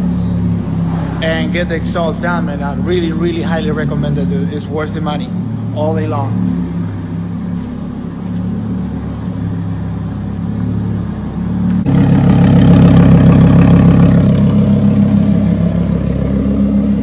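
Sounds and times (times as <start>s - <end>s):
sports car engine idling: 0.0s - 17.0s.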